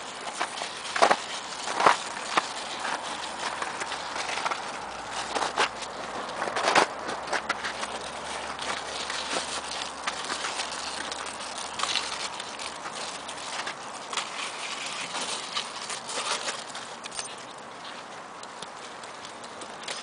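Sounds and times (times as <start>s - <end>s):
crunching over snow and ice: 0.0s - 20.0s.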